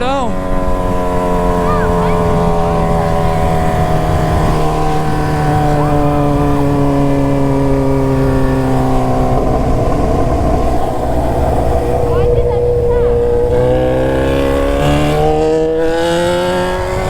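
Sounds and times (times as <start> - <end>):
motorcycle engine running: 0.0 - 17.0
wind rumble: 0.0 - 17.0.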